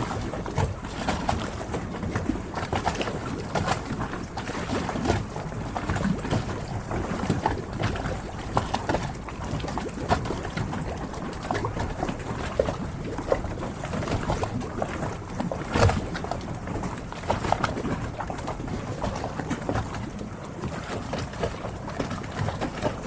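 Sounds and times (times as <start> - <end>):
water lapping against hulls: 0.0 - 23.0.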